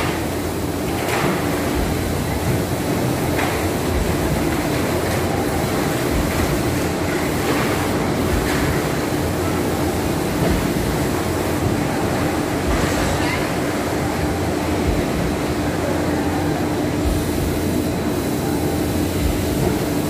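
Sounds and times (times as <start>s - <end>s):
machine rumble and hiss: 0.0s - 20.0s.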